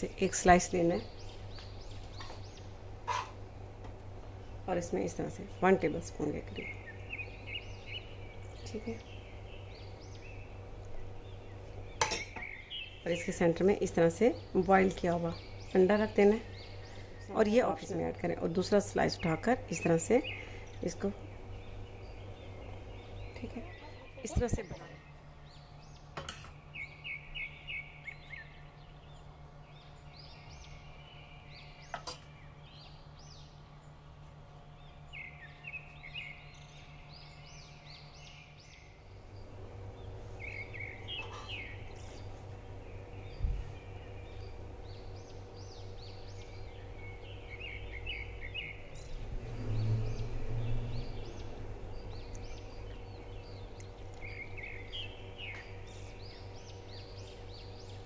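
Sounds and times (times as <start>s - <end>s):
small birds chirping: 0.0s - 58.0s
steady hum: 0.0s - 58.0s.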